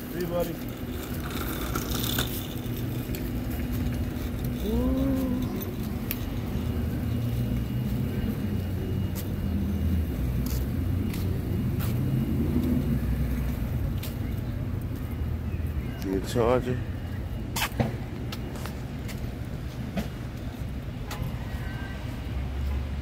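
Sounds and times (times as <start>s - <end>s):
low rumble of car engines: 0.0s - 23.0s.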